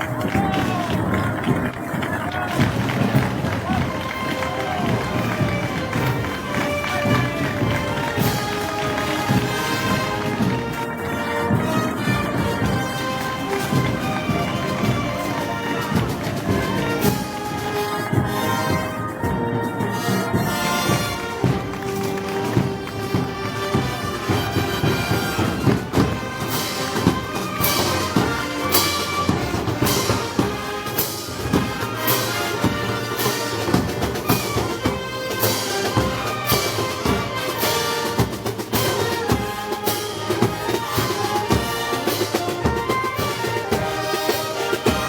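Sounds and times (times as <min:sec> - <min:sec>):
parade band music: 0:00.0 - 0:45.0.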